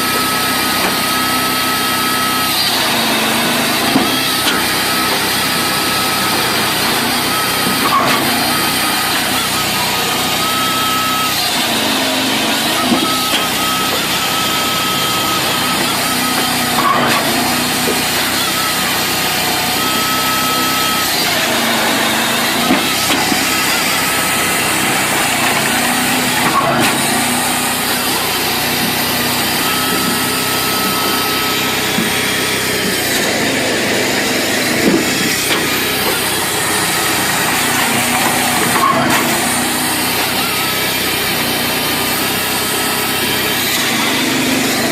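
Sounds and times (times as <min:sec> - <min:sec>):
machine engine running: 0:00.0 - 0:44.9
machine whine: 0:00.0 - 0:44.9.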